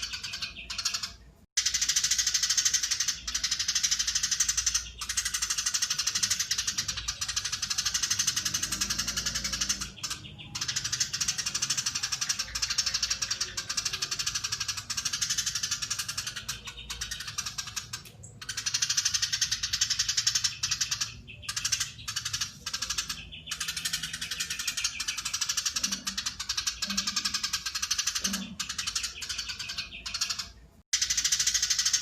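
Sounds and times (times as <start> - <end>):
sparrow chattering: 0.0 - 32.0.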